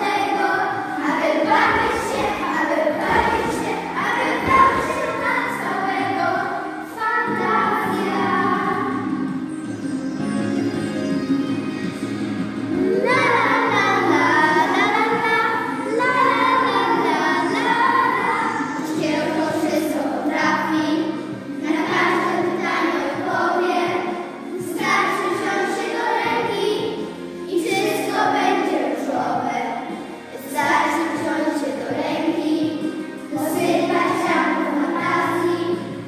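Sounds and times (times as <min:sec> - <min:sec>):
children singing: 0:00.0 - 0:10.9, 0:11.5 - 0:36.0
backing music: 0:00.0 - 0:36.0.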